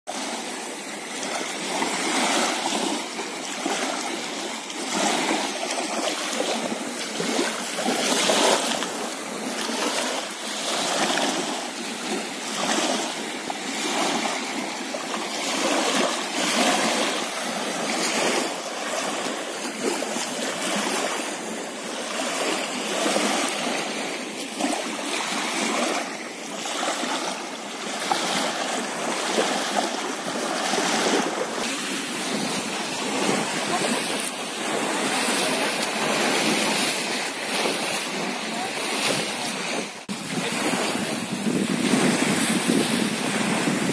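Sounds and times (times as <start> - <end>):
small waves lapping on shore: 0.1 - 43.9.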